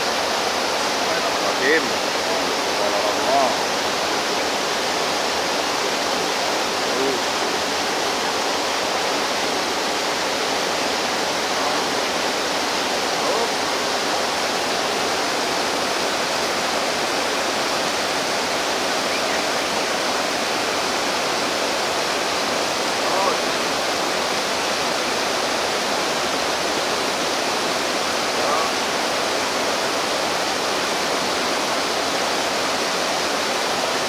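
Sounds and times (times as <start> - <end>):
rush of flowing water: 0.0 - 34.0.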